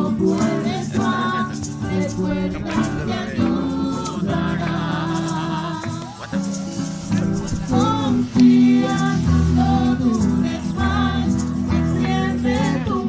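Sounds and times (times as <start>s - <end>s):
group singing with instruments: 0.0s - 13.0s
tambourine rattle: 0.0s - 13.0s.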